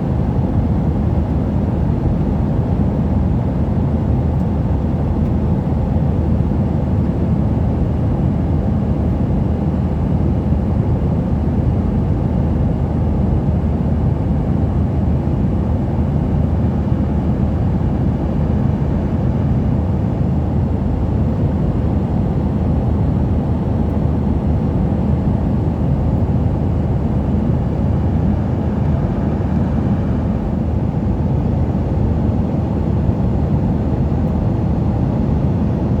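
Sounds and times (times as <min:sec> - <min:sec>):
airliner cabin engine rumble: 0:00.0 - 0:36.0.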